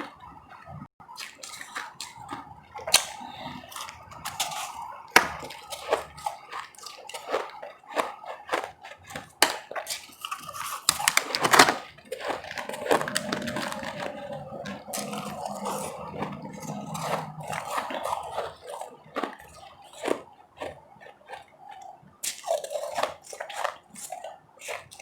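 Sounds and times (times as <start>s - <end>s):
ice crunching between teeth: 1.1s - 25.0s.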